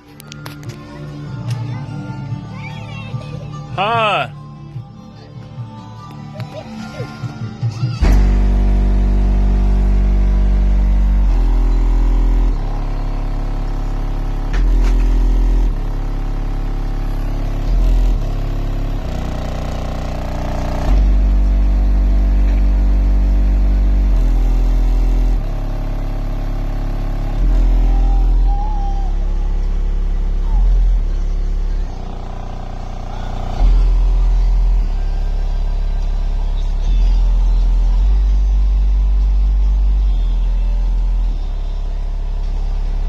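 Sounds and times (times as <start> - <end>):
deep bass music from subwoofers: 0.0 - 43.0.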